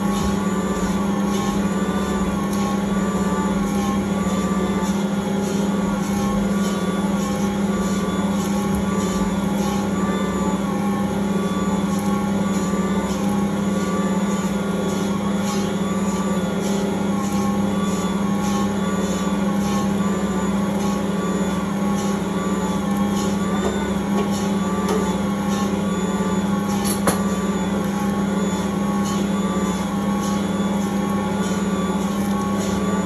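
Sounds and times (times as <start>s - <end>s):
rhythmic swish of dough: 0.0s - 33.0s
stand mixer motor hum: 0.0s - 33.0s.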